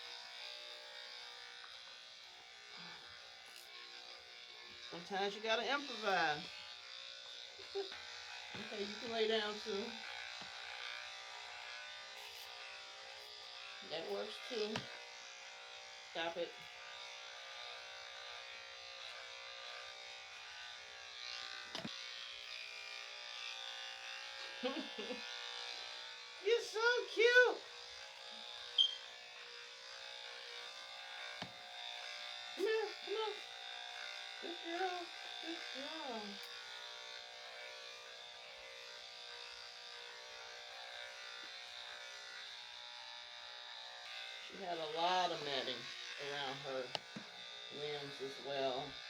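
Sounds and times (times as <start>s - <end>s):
electric clippers buzzing: 0.0s - 49.0s.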